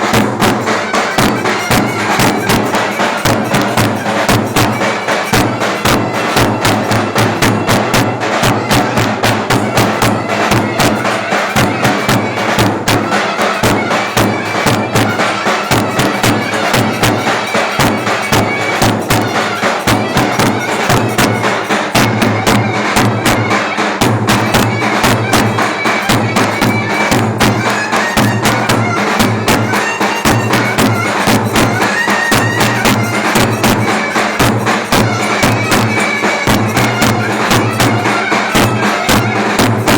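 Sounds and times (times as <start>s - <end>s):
clarinet playing folk tune: 0.0s - 39.9s
drum fast steady beat: 0.0s - 39.9s.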